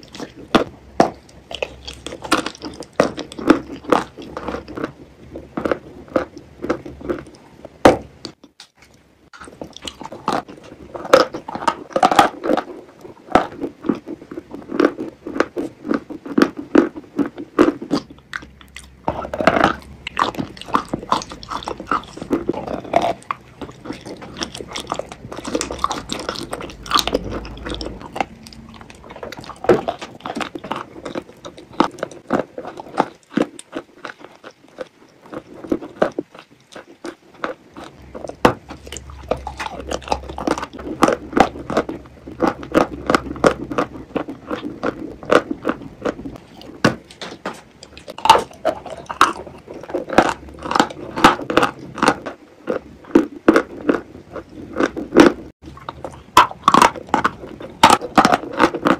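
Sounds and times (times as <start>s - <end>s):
crunchy bites and chewing: 0.0s - 58.9s.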